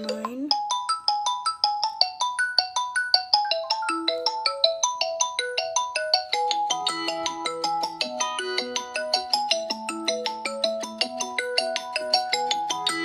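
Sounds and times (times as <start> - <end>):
phone ringtone melody: 0.0 - 13.0.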